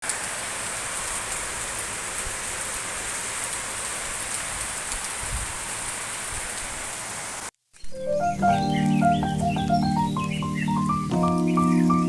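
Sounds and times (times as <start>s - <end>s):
steady rain falling: 0.0s - 7.5s, 8.2s - 12.0s.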